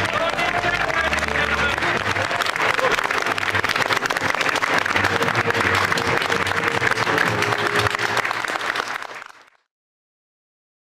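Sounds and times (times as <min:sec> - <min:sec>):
music playing: 0:00.0 - 0:09.2
audience applauding: 0:00.0 - 0:09.7.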